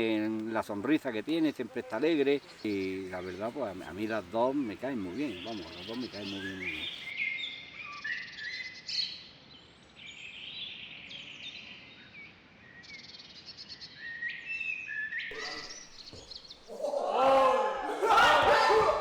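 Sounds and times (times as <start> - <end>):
small birds chirping and trilling: 0.0 - 16.8.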